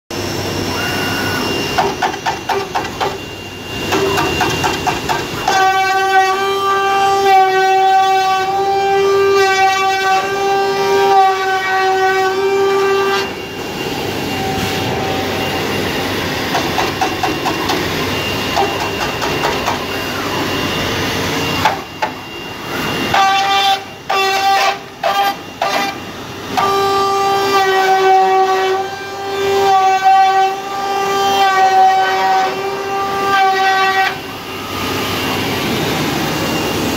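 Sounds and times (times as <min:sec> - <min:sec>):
spindle cutting whine: 0:00.1 - 0:36.9.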